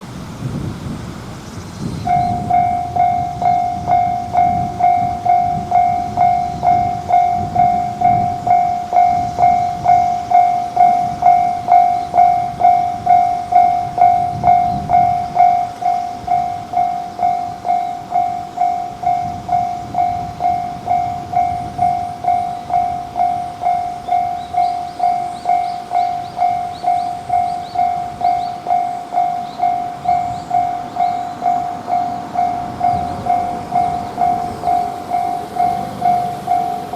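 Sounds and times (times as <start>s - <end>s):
train rumbling past: 0.0s - 36.9s
level crossing warning bell ringing: 2.1s - 36.9s.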